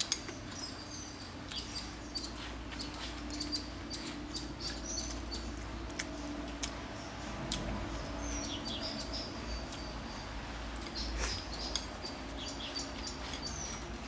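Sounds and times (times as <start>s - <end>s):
chewing with mouth clicks: 0.0s - 8.2s, 10.6s - 14.0s.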